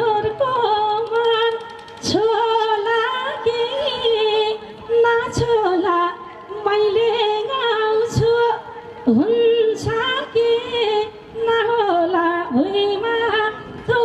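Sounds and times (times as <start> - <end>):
woman singing folk song: 0.0 - 14.0.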